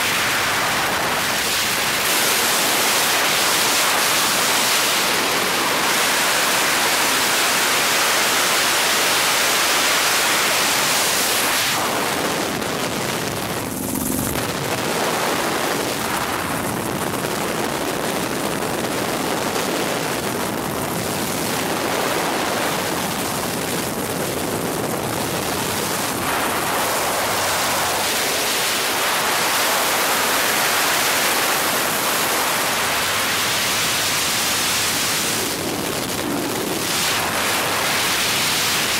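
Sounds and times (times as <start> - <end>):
helicopter cabin noise: 0.0 - 38.9.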